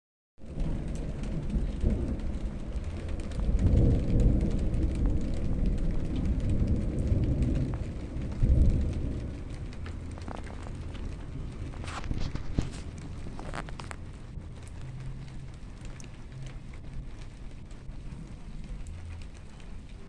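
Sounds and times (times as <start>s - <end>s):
light rain: 0.4s - 20.0s
thunder rumbling: 0.4s - 20.0s.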